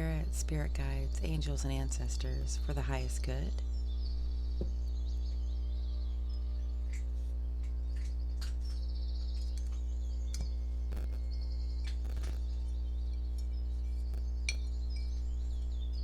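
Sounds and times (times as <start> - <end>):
low hum: 0.0 - 16.0
faint high chirping: 0.3 - 16.0.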